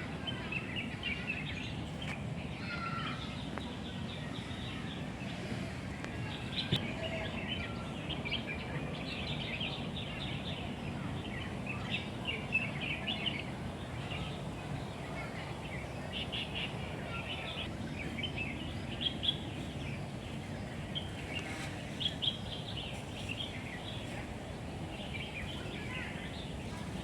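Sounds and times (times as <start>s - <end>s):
low background noise: 0.0s - 27.0s
small birds chirping: 0.2s - 27.0s.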